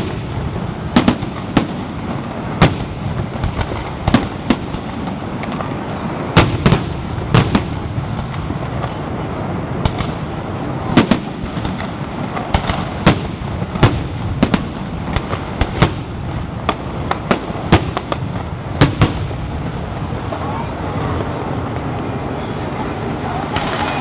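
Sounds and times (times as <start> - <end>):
background rumble: 0.0 - 24.0
fireworks bangs: 0.0 - 24.0.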